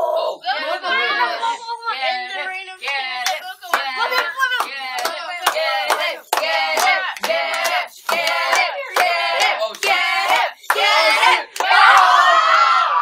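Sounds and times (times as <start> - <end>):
children chanting a cheer: 0.0 - 13.0.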